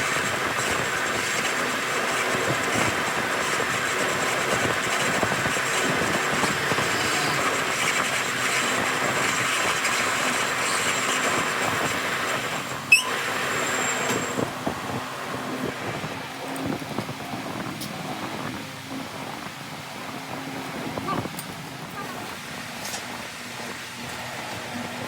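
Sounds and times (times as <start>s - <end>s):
mechanical running noise with hiss: 0.0s - 25.0s.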